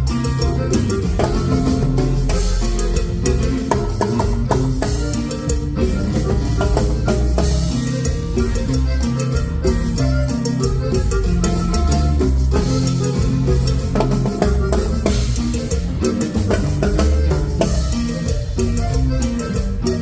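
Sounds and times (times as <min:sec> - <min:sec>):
bass guitar: 0:00.0 - 0:20.0
drum kit: 0:00.0 - 0:20.0
live band playing: 0:00.0 - 0:20.0.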